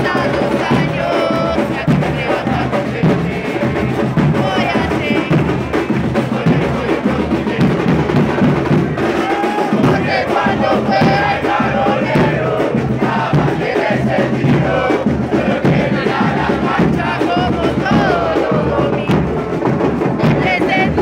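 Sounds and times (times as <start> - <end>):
crowd singing and chanting: 0.0 - 21.0
drums beating a rhythm: 0.0 - 21.0.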